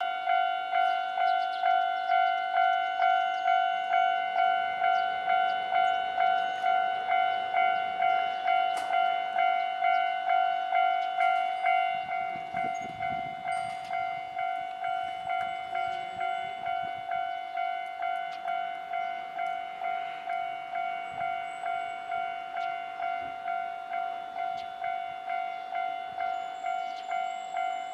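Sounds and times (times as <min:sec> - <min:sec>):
level crossing warning bell: 0:00.0 - 0:27.9.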